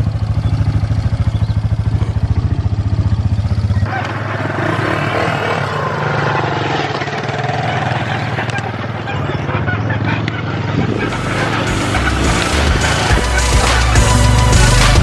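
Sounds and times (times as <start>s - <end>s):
quad engine thudding: 0.0s - 15.0s.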